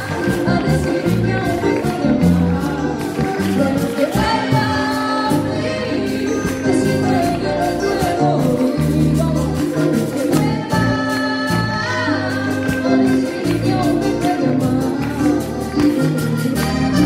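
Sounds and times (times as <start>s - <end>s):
woman singing into microphone: 0.0s - 15.8s
button accordion: 0.0s - 17.0s
percussion beat: 0.0s - 17.0s.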